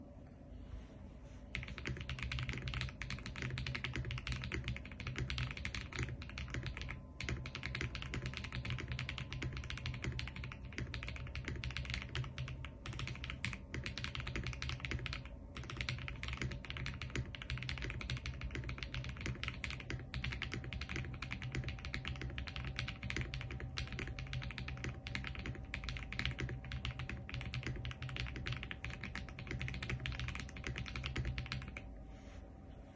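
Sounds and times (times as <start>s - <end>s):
mechanical keyboard typing: 1.5s - 31.8s.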